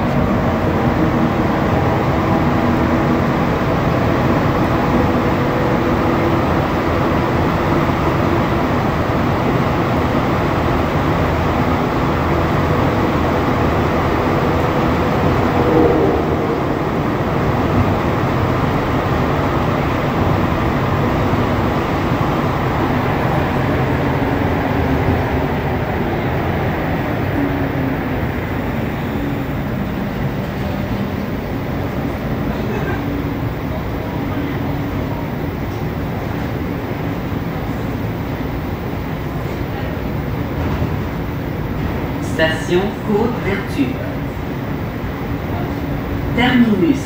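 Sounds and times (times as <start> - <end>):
multi-tone train whine: 0.0 - 47.0
train rolling rumble in tunnel: 0.0 - 47.0.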